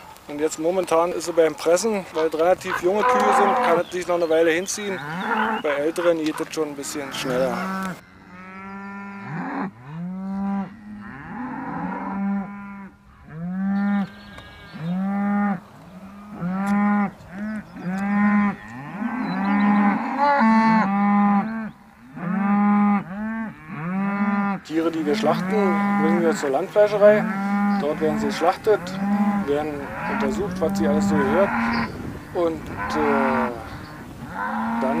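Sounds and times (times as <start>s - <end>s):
cattle mooing: 1.2s - 35.0s.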